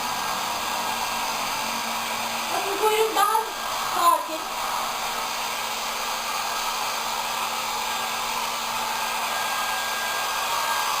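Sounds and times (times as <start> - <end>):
electric dryer blowing air: 0.0 - 11.0.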